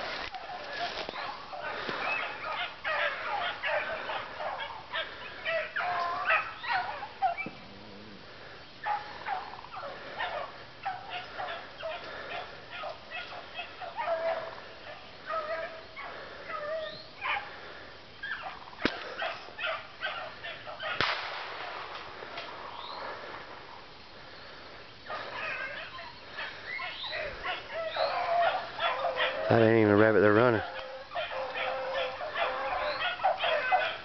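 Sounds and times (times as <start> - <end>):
dogs baying and yelping: 0.0 - 34.0.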